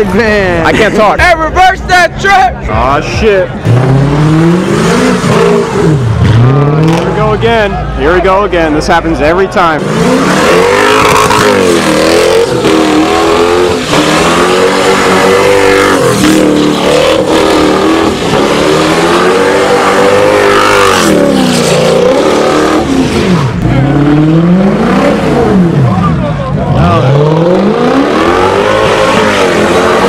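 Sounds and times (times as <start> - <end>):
car engine revving: 2.9 - 30.0.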